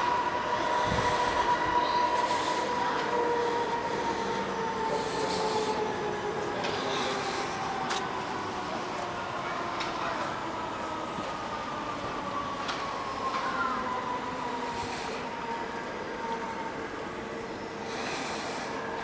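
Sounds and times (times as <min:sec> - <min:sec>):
fairground background noise: 0:00.0 - 0:19.0.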